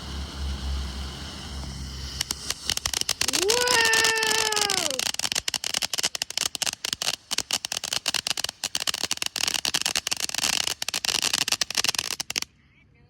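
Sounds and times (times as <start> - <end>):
ground firework crackling: 0.0 - 12.6.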